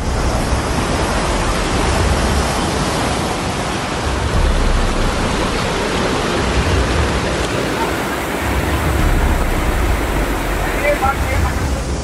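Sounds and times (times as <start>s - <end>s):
floodwater rushing: 0.0s - 12.0s
low rumbling: 0.0s - 12.0s.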